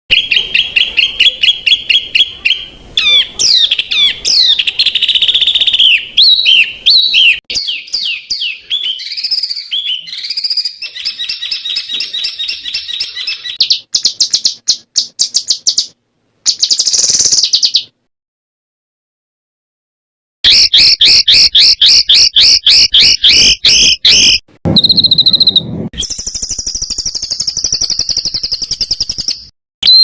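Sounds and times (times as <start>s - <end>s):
songbird singing: 0.1s - 18.0s, 20.5s - 30.0s.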